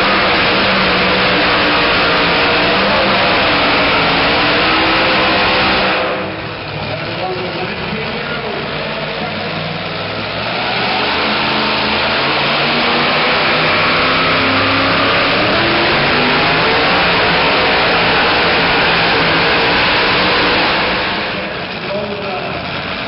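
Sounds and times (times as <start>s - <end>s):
pulling truck engine at full throttle: 0.0s - 23.0s.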